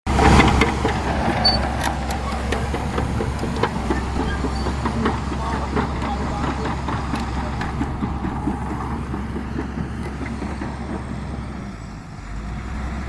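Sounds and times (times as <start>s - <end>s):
steel tracks clanking: 0.1s - 12.3s
bulldozer diesel engine rumbling: 0.1s - 13.0s.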